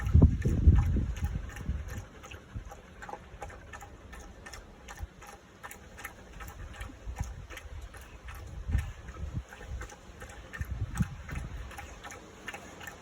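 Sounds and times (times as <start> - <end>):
dog lapping water: 0.0 - 13.0.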